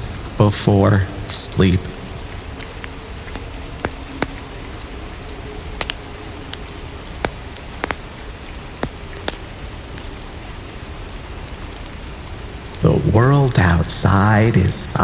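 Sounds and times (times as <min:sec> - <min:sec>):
close water drops landing: 0:00.0 - 0:12.8
soft rainfall: 0:00.0 - 0:15.0.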